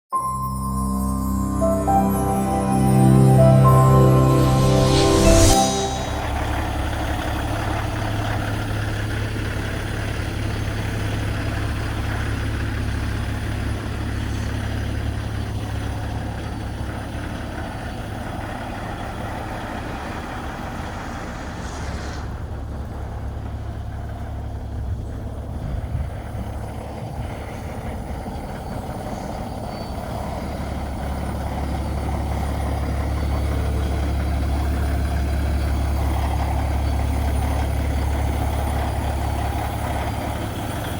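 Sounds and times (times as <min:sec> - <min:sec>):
diesel truck engine idling: 0:05.6 - 0:40.9.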